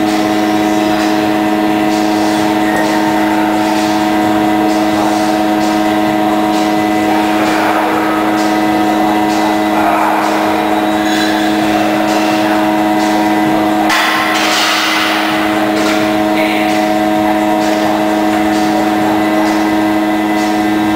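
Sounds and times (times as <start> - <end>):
loud mechanical hum: 0.0 - 20.9
noisy rush: 0.0 - 20.9.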